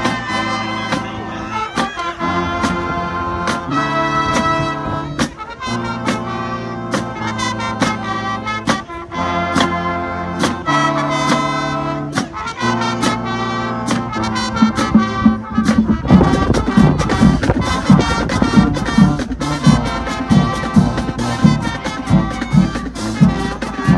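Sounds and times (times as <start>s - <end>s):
brass chords: 0.0s - 23.9s.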